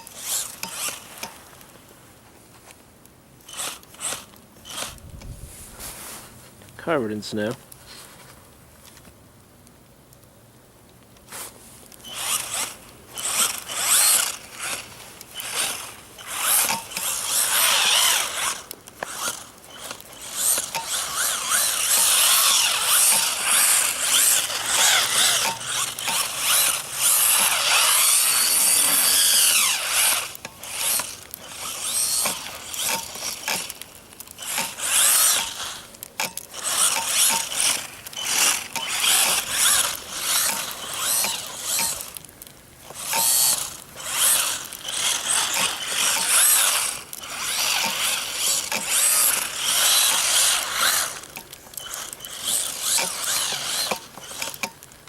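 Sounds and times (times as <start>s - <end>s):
electric motor whining: 0.0s - 1.2s, 3.4s - 5.3s, 12.0s - 42.2s, 42.8s - 54.7s.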